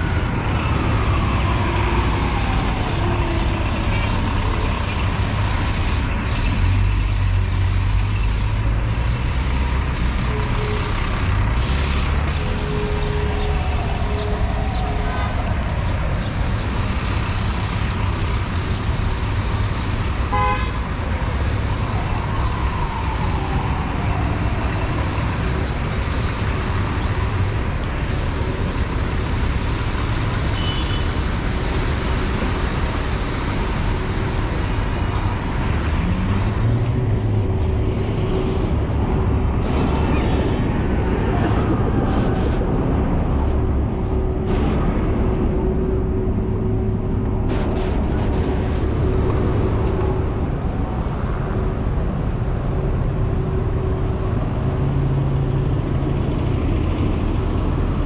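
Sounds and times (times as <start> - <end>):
engine whines of passing vehicles: 0.0 - 58.0
traffic rumble: 0.0 - 58.0.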